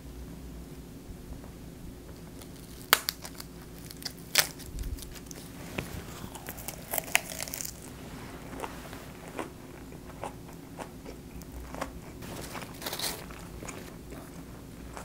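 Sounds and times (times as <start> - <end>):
crisp crunching and chewing: 2.1 - 15.0.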